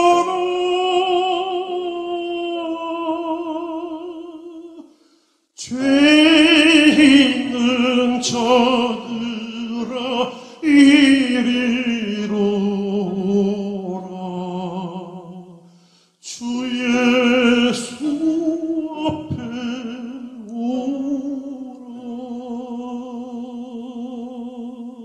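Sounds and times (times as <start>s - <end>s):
tenor singing a hymn operatically: 0.0s - 4.9s, 5.6s - 25.0s.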